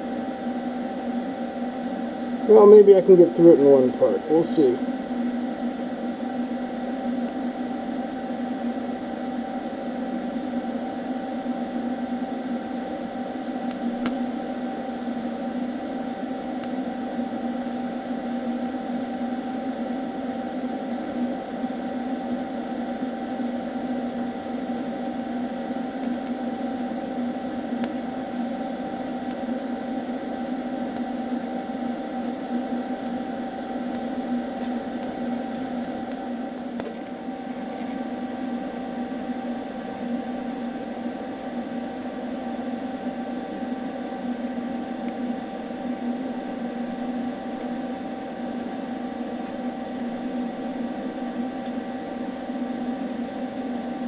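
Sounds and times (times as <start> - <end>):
constant low hum: 0.0 - 54.0.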